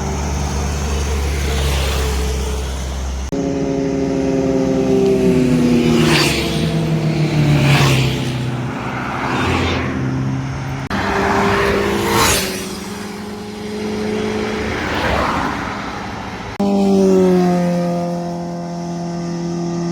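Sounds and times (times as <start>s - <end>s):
motorbikes passing at speed: 0.0s - 19.9s
steady engine drone: 0.0s - 19.9s.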